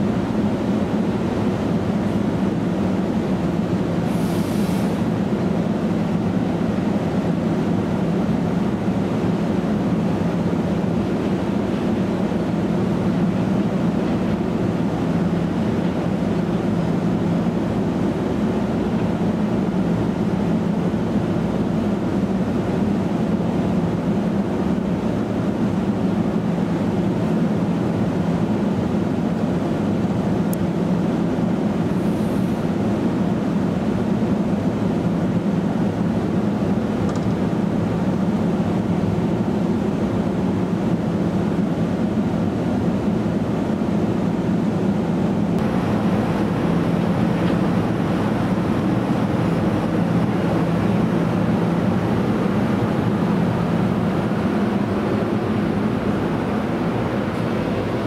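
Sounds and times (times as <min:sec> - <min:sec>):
train equipment hum: 0:00.0 - 0:58.0.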